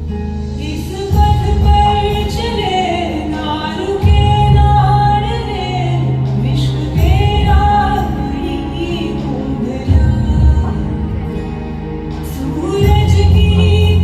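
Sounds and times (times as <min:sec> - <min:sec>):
deep bass notes: 0:00.0 - 0:14.0
sustained accompaniment: 0:00.0 - 0:14.0
woman singing: 0:00.5 - 0:14.0.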